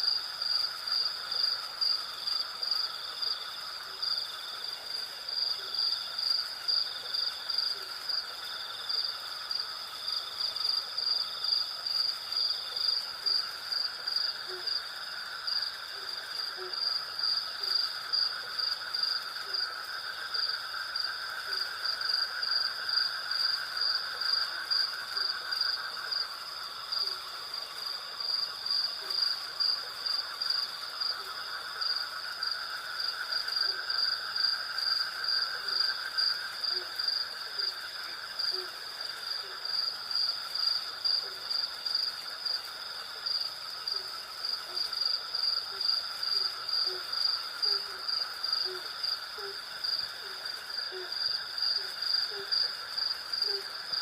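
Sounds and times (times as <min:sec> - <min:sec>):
crickets chirping: 0:00.0 - 0:54.0
low insect drone: 0:00.0 - 0:54.0.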